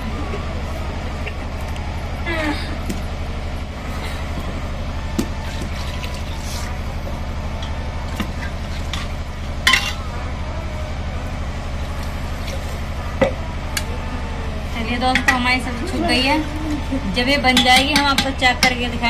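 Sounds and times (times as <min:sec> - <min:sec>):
generator humming: 0:00.0 - 0:19.0.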